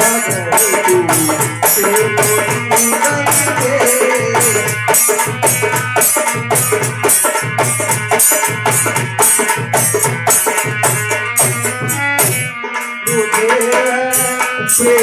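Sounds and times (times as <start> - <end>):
dholak drum rhythm: 0.0 - 15.0
jingling percussion: 0.0 - 15.0.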